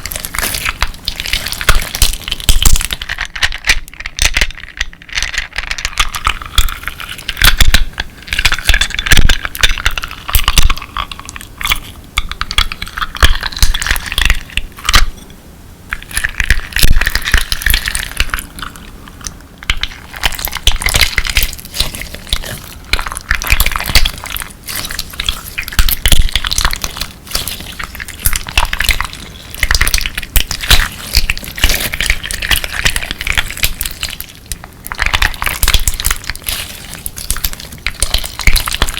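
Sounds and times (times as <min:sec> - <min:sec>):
crunchy slime crackling: 0:00.0 - 0:15.2, 0:15.9 - 0:38.9.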